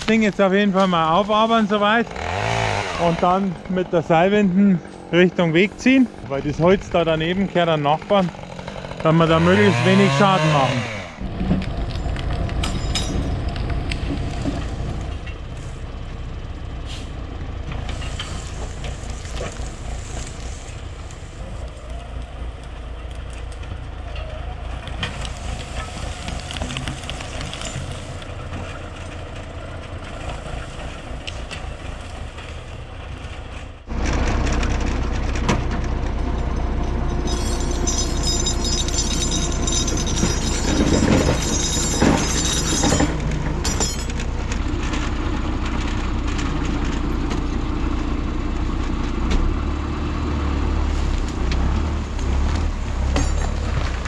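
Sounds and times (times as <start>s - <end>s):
logs dragging: 0.0s - 54.0s
tractor diesel engine running: 0.0s - 54.0s.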